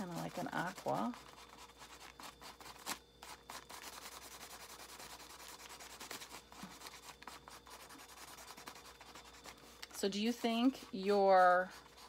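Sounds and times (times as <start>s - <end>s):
marker scratching on paper: 0.0s - 12.0s.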